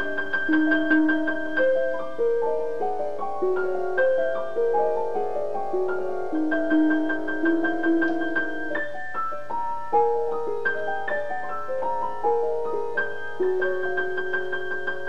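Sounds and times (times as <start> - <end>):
solo piano playing: 0.0 - 15.0.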